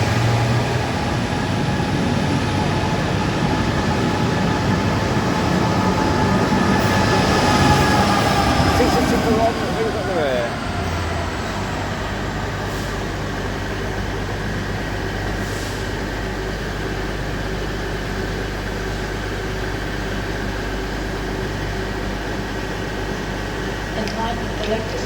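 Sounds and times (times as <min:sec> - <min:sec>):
diesel railway engine humming: 0:00.0 - 0:25.0.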